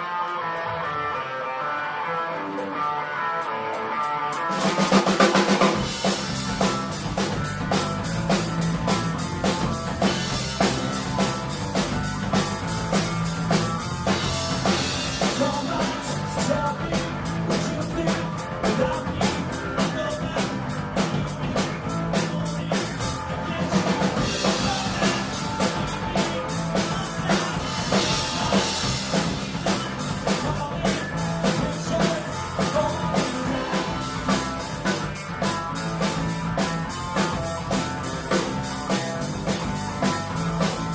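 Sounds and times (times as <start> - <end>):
live rock band playing: 0.0 - 40.9
drum kit fast beat: 4.3 - 40.9.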